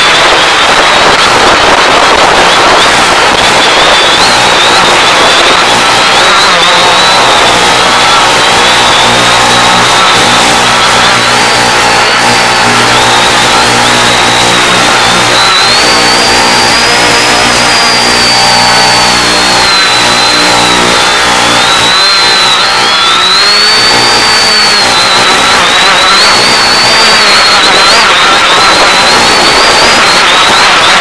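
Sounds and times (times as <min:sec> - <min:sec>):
drone motors whining: 0:00.0 - 0:31.0
loud hiss: 0:00.0 - 0:31.0.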